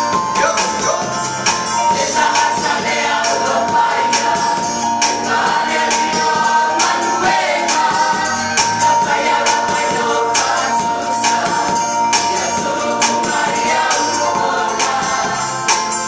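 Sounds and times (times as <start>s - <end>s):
group singing gospel: 0.3s - 16.0s.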